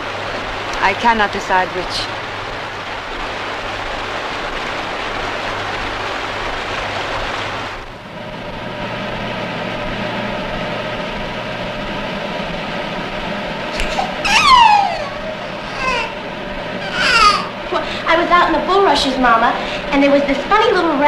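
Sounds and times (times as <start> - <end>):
hair dryer humming: 0.0 - 19.9
steady rushing hiss: 0.0 - 21.0.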